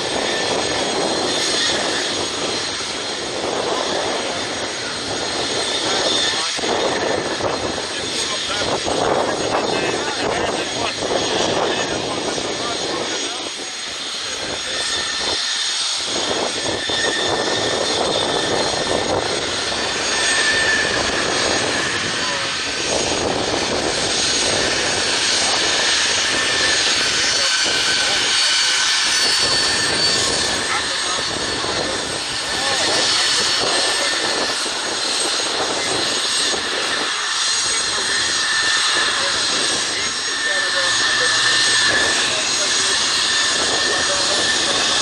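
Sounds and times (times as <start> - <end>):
jet engine rushing and whining: 0.0 - 45.0.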